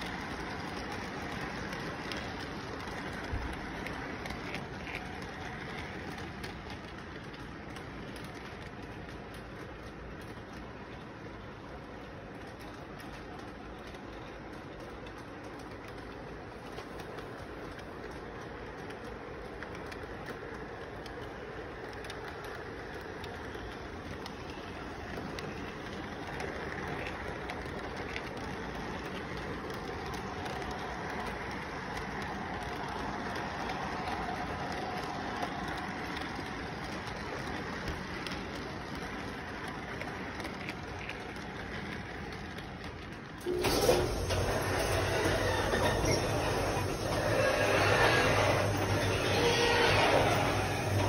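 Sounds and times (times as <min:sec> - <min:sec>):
model train rolling on track: 0:00.0 - 0:51.0.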